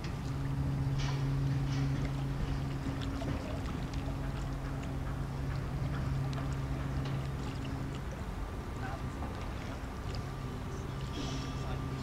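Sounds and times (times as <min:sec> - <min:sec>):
small waves lapping against concrete: 0:00.0 - 0:12.0
steady low hum: 0:00.0 - 0:12.0.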